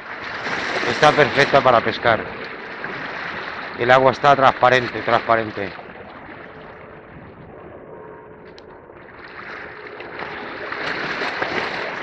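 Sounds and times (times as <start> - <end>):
sea water washing against rocks: 0.0 - 7.4, 9.1 - 12.0.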